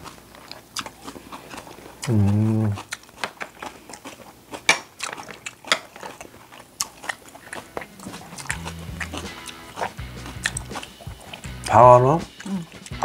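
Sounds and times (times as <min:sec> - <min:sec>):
close-up chewing with crunches: 0:00.0 - 0:13.0.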